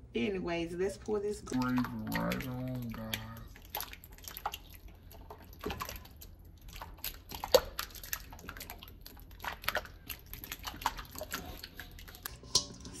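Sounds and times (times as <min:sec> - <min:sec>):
gravy plopping into metal pan: 0:01.5 - 0:13.0.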